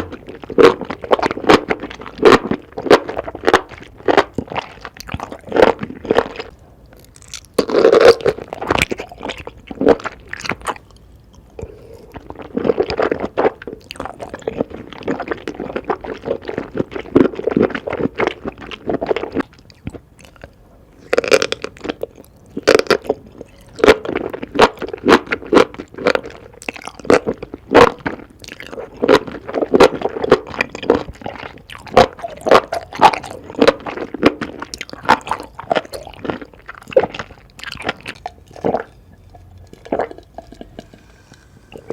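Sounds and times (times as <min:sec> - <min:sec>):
crunching and chewing food: 0:00.0 - 0:41.9.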